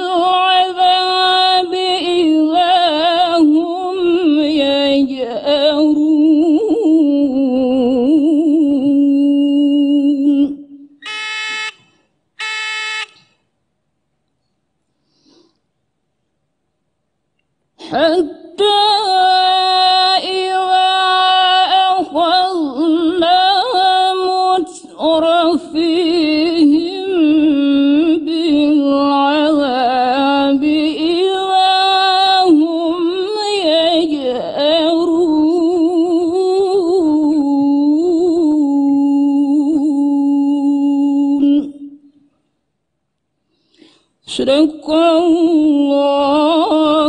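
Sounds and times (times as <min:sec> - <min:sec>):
woman reciting melodically: 0:00.0 - 0:11.8, 0:17.8 - 0:42.3, 0:44.2 - 0:47.0.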